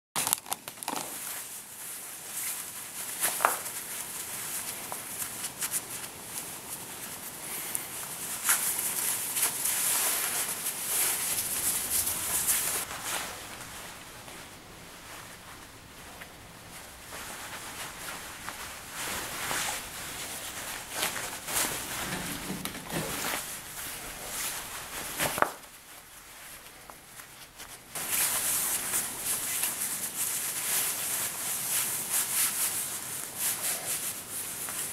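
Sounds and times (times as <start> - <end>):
cloth swishing and rustling: 1.2 - 34.9.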